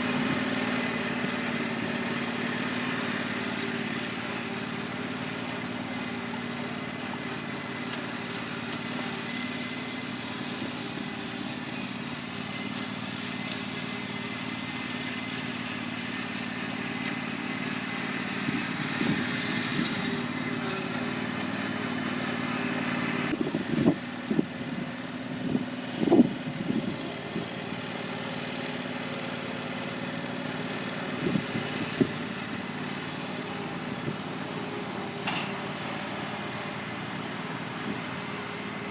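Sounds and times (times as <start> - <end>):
lawn mower running: 0.0 - 38.9.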